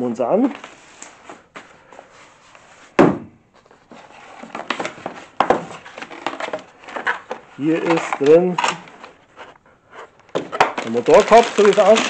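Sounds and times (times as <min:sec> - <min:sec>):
rustling and scraping: 0:00.4 - 0:12.0.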